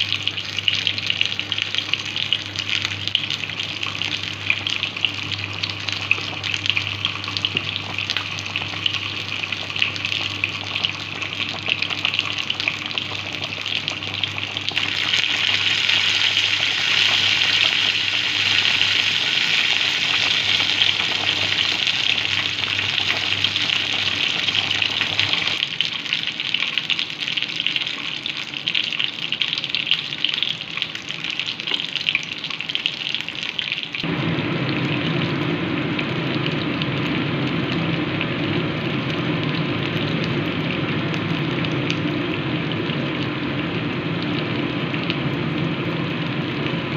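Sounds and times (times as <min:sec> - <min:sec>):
soup boiling: 0:00.0 - 0:46.9.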